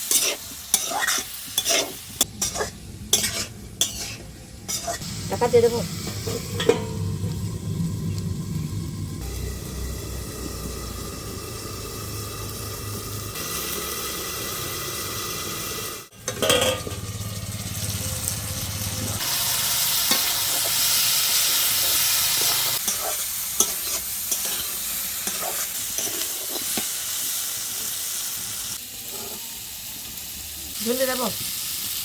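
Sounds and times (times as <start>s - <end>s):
vegetables sizzling in oil: 0.0s - 32.0s.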